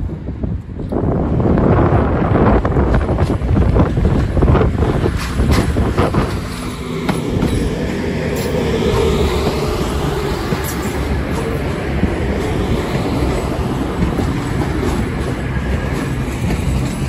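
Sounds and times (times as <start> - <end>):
train wheels clicking over track joints: 2.9 - 17.0.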